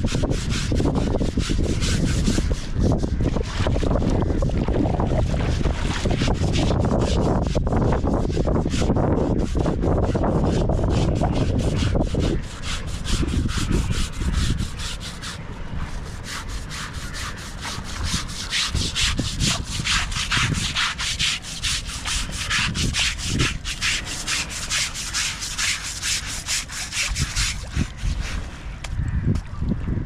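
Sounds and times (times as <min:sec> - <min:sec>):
rhythmic scrubbing on elephant hide: 0:00.0 - 0:28.6.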